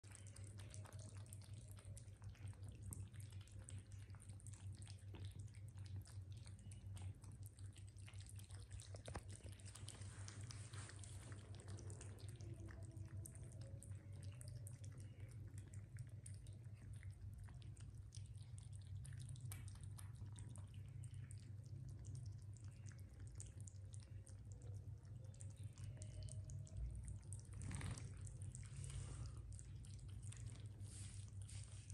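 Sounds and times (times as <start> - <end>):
cats lapping liquid: 0.0 - 31.9
low steady hum: 0.0 - 31.9.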